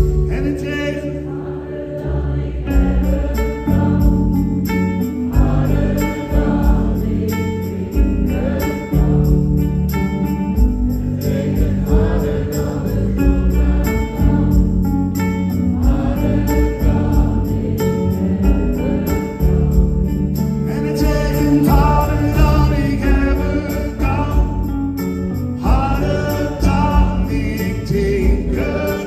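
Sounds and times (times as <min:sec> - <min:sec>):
live band music: 0:02.8 - 0:16.2, 0:16.8 - 0:29.0.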